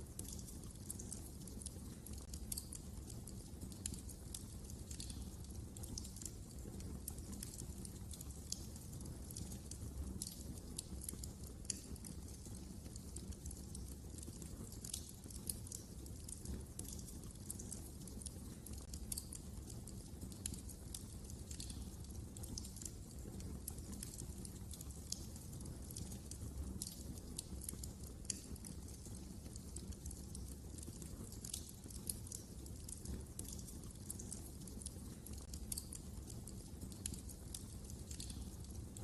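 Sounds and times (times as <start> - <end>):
fire crackling and popping: 0.0 - 39.0.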